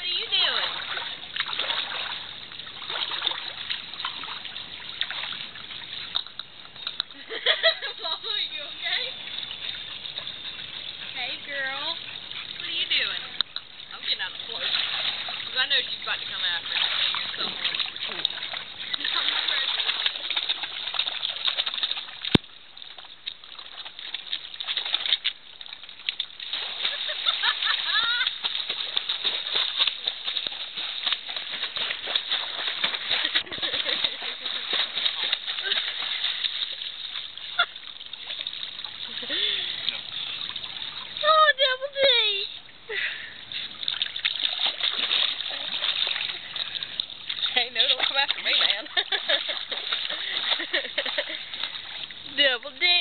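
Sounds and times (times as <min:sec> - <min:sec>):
pool water lapping and splashing: 0:00.0 - 0:53.0.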